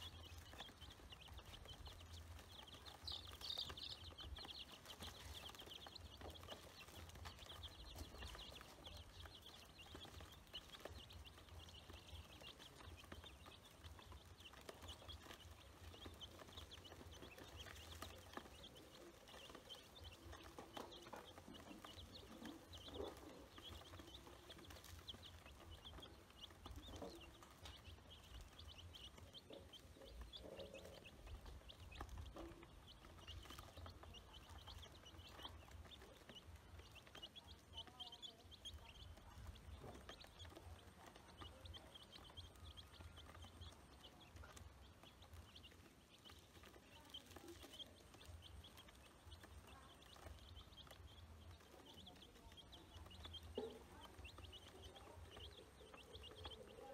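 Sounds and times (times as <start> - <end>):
ducklings and chicks peeping: 0.0 - 56.9.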